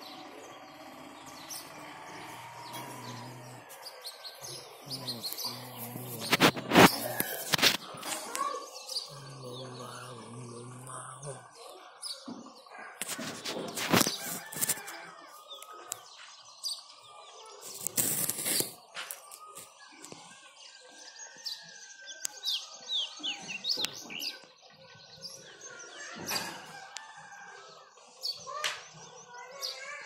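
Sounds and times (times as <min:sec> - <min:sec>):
birds chirping: 0:00.0 - 0:27.4.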